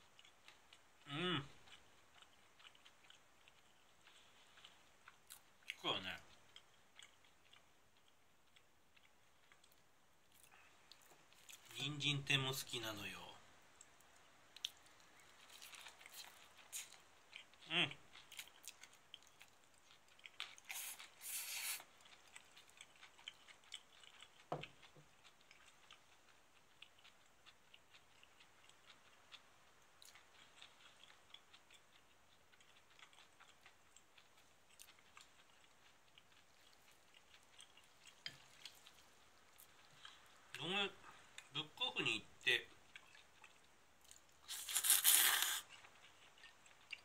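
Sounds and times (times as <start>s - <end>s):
chewing crisp food: 0.0s - 47.0s.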